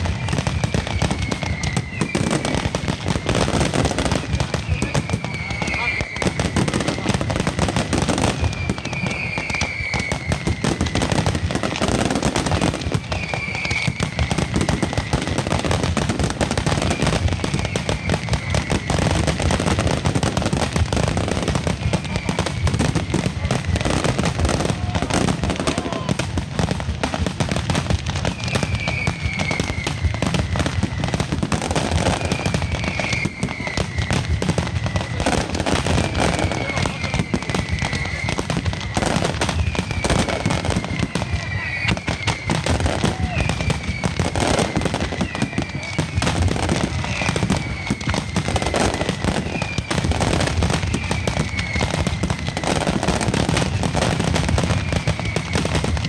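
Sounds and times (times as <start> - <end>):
firecrackers crackling: 0.0 - 56.0
whistling fireworks: 0.0 - 56.0.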